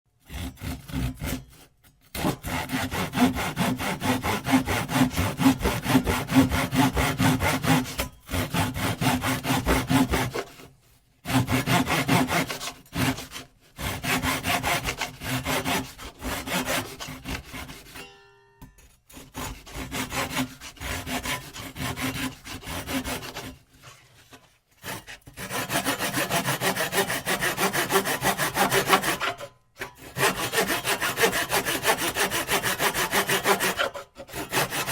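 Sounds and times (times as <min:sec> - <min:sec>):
hand saw cutting wood: 0:00.2 - 0:18.1, 0:19.1 - 0:34.9.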